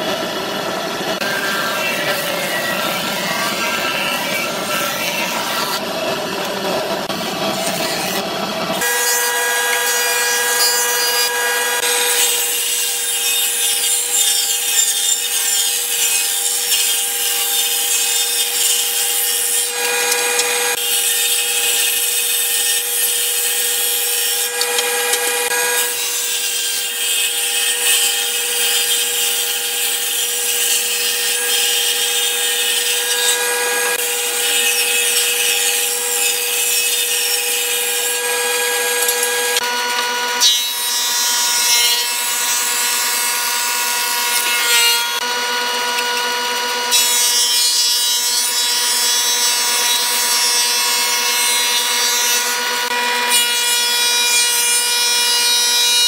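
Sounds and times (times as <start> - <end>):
cutter hissing through wood: 0.0 - 56.0
woodworking machine whining: 0.0 - 56.0.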